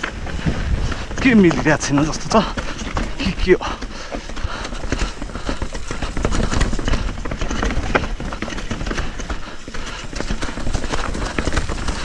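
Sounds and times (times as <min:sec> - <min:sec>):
bike rattling: 0:00.0 - 0:12.0
tyres crunching on rocks: 0:00.0 - 0:12.0.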